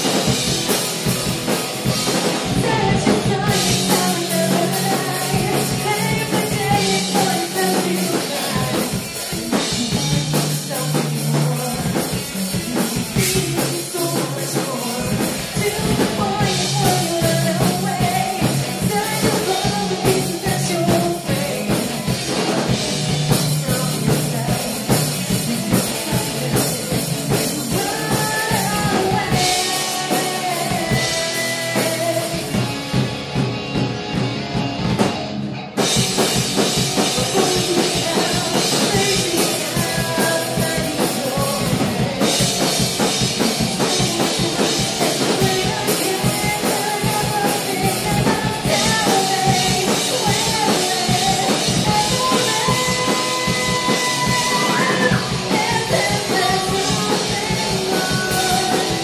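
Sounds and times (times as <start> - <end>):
woman singing lead: 0.0 - 33.3, 35.8 - 59.0
live rock band playing: 0.0 - 59.0.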